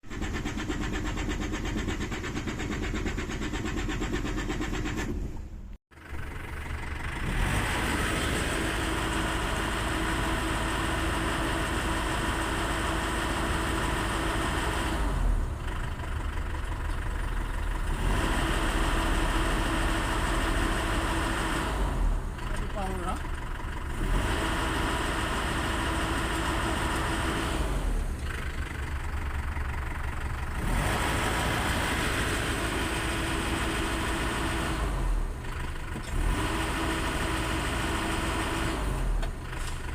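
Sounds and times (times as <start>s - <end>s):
diesel engine cranking: 0.0s - 39.9s
diesel engine running steadily: 0.0s - 39.9s.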